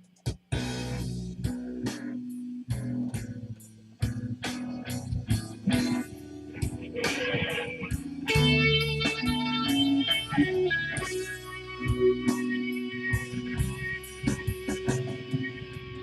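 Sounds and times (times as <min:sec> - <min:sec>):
steady beat: 0:00.1 - 0:16.0
blues electric guitar: 0:00.6 - 0:16.0.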